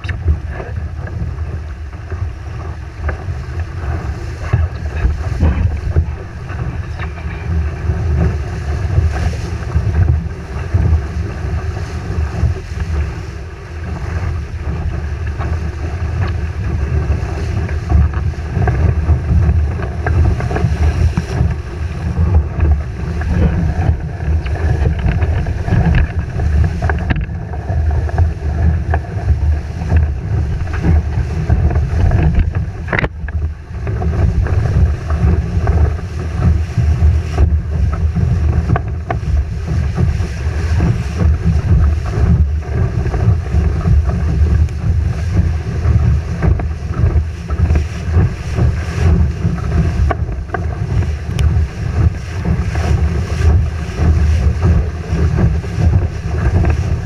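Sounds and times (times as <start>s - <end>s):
water rushing past hull: 0.0s - 57.0s
wind buffeting microphone: 0.0s - 57.0s.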